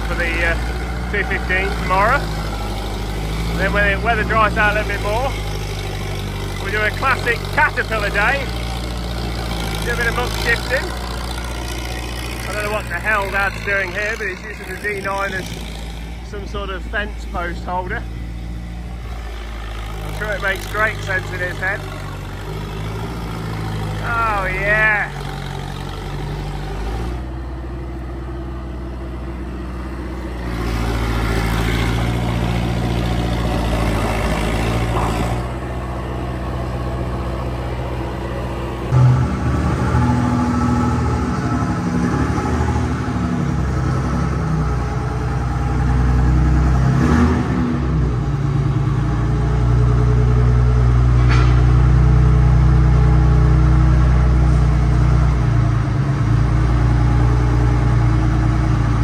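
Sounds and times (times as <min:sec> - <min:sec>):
large diesel engine working: 0:00.0 - 0:59.0.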